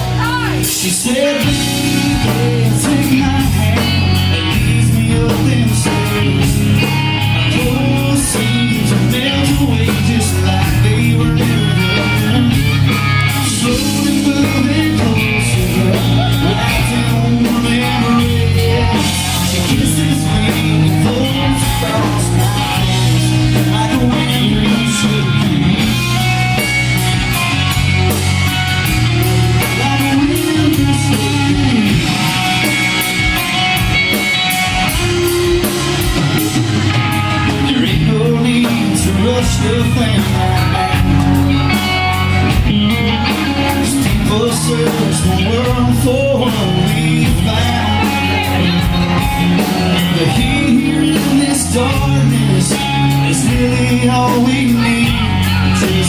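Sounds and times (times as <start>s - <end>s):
electric guitar: 0.0s - 56.0s
live rock band playing: 0.0s - 56.0s.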